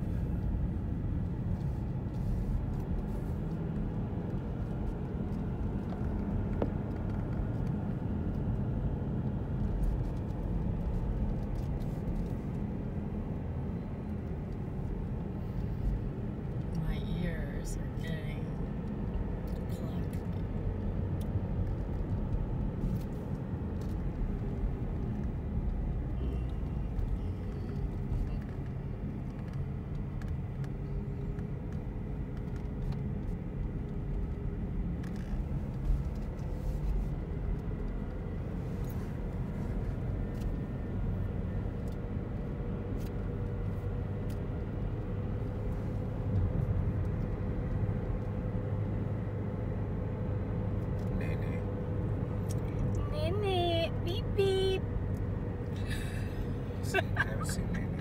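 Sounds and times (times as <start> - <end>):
tyre and engine rumble: 0.0 - 58.0.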